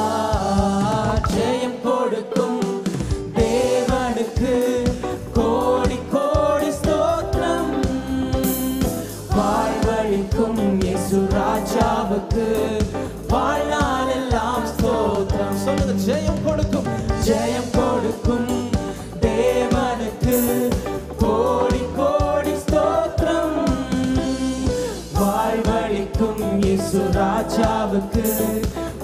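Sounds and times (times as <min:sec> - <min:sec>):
man and woman singing worship song: 0:00.0 - 0:29.0.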